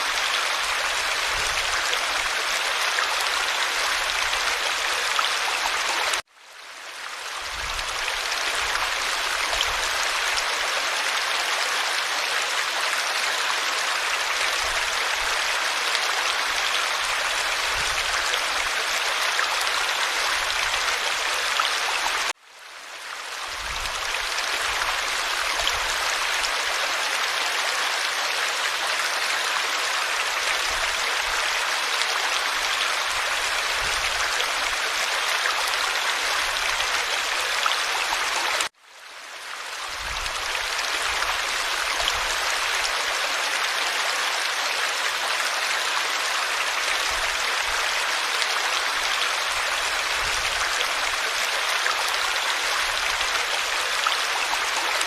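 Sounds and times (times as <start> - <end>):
stream rushing babble: 0.0 - 6.3, 6.9 - 22.3, 23.3 - 38.7, 39.4 - 55.0.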